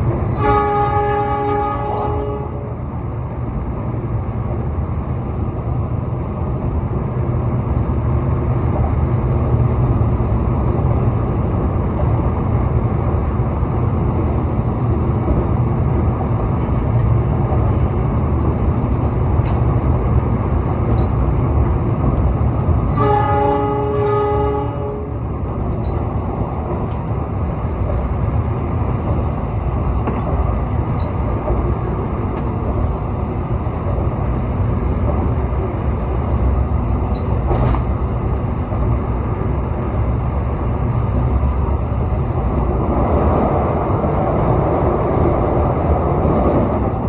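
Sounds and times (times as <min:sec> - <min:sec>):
train running low rumble: 0:00.0 - 0:47.0.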